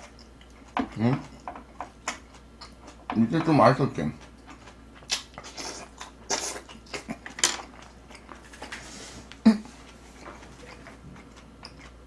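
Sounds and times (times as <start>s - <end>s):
person chewing: 0.0s - 3.1s, 4.1s - 12.0s.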